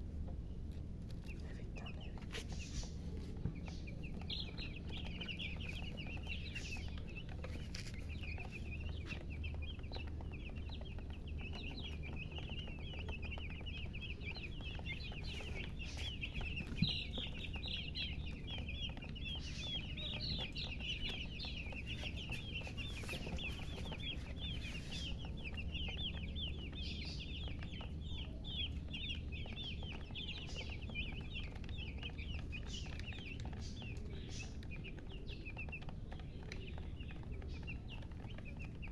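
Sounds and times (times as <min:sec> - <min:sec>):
baby chicks peeping: 0:00.0 - 0:38.9
steady low hum: 0:00.0 - 0:38.9.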